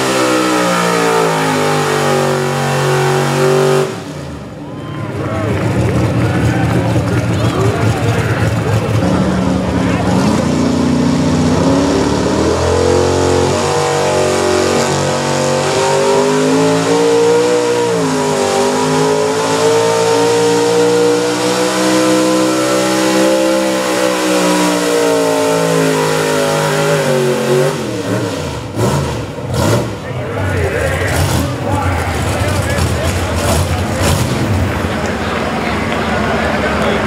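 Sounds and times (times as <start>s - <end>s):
truck engine at high revs: 0.0s - 37.0s.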